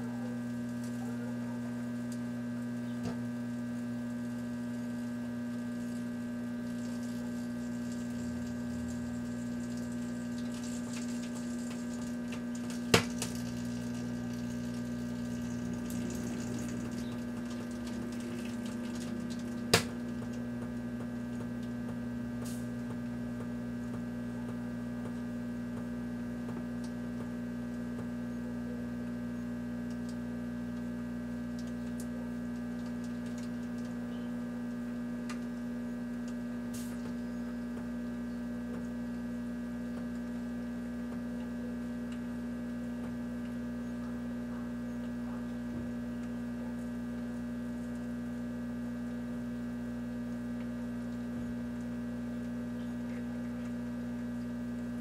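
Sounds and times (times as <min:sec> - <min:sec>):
microwave oven hum: 0:00.0 - 0:55.0.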